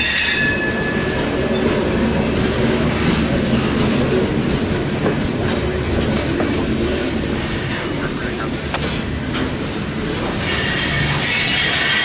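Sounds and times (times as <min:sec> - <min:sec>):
steel wheels rumbling on rail: 0:00.0 - 0:12.0
wheels clicking over rail joints: 0:00.0 - 0:12.0.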